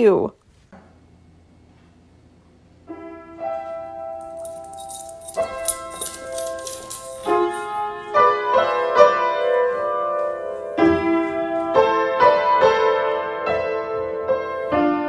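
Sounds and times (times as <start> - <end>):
piano chords ringing: 2.8 - 15.0.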